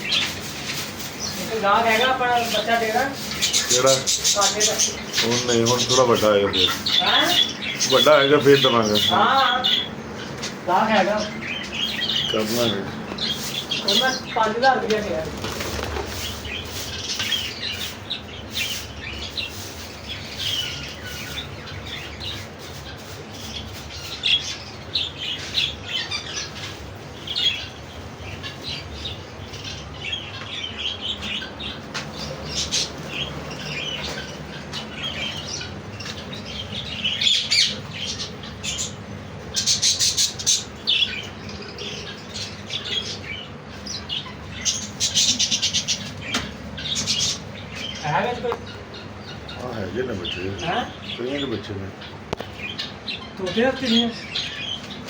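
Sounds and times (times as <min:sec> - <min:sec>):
parrots chirping and squawking: 0:00.0 - 0:55.0.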